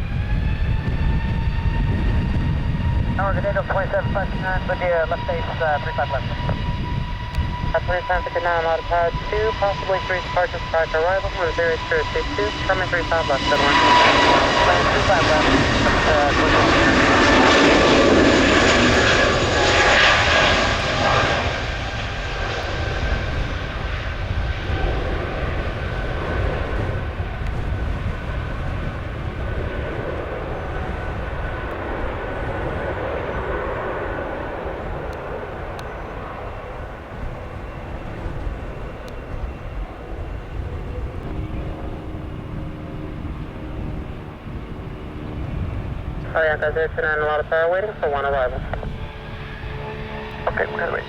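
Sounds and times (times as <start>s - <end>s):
wind noise on microphone: 0.0s - 47.4s, 48.1s - 50.8s
jet airliner engines: 0.0s - 51.0s.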